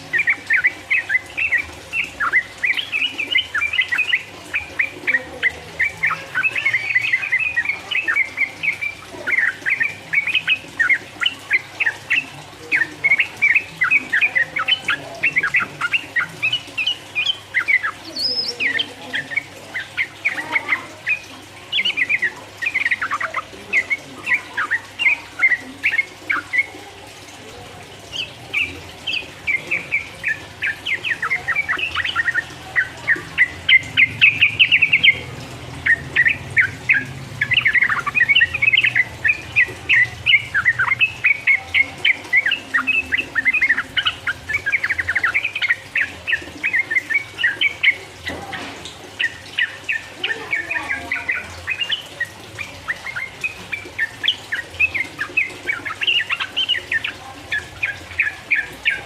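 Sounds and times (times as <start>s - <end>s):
bird chirping bubbly notes: 0.0s - 59.0s.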